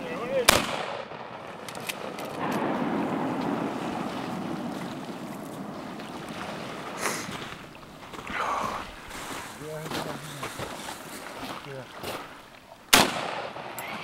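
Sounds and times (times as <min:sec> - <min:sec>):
animal splashing in river water: 0:02.5 - 0:13.7.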